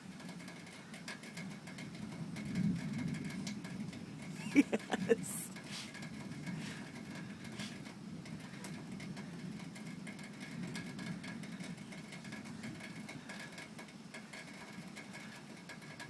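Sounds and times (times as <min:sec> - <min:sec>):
light rain ticks: 0:00.0 - 0:16.0.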